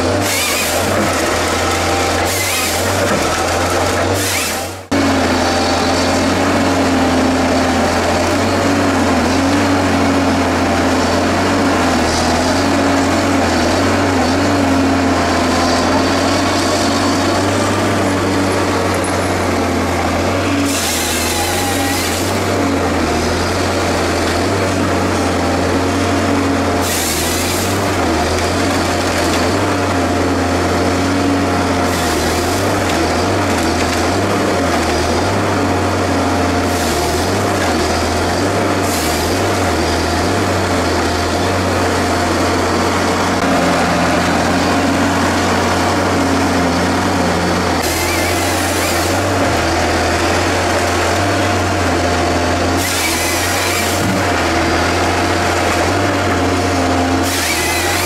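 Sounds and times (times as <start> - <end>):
chainsaw bucking a log: 0.0 - 58.0
diesel engine running under load: 0.0 - 58.0
hydraulic whine: 0.0 - 58.0.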